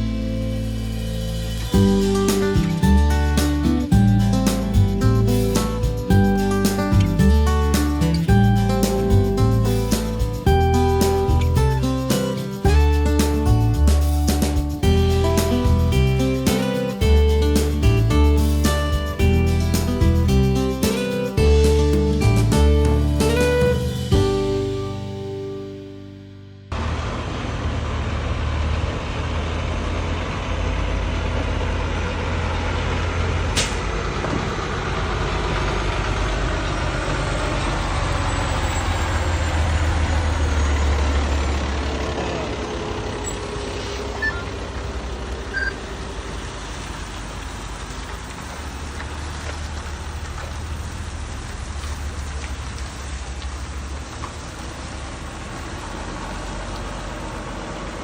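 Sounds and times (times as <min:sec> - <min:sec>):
diesel truck engine rumble: 0:00.0 - 0:58.0.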